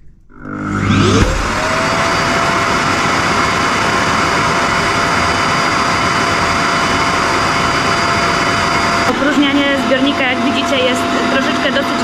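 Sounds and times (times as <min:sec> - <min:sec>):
vacuum suction motor running: 0:00.2 - 0:12.0.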